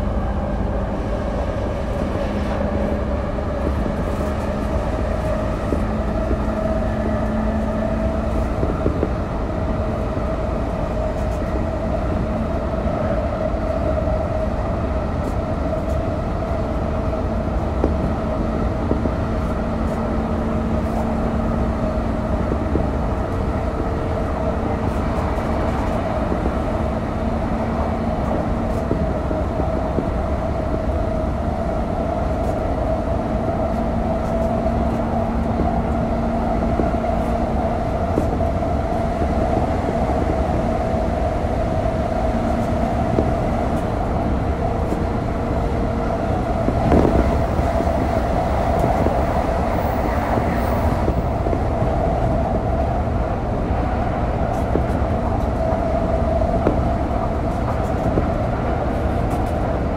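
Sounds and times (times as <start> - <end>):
train motor hum: 0.0 - 59.9
wheels rumbling on rail: 0.0 - 59.9.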